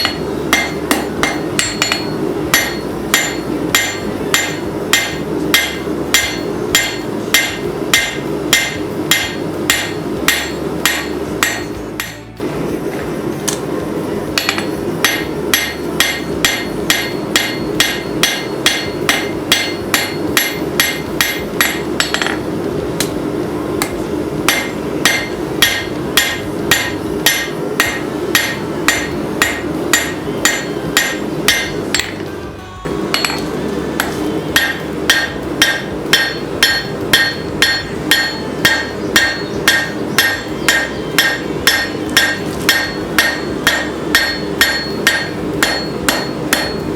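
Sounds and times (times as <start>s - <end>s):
hammer ringing on hot steel: 0.0s - 12.3s, 14.4s - 32.3s, 32.9s - 46.9s
steady hum: 0.0s - 46.9s.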